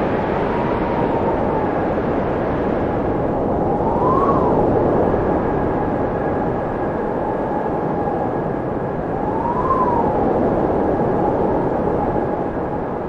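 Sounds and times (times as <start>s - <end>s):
blizzard wind whistling: 0.0s - 13.0s.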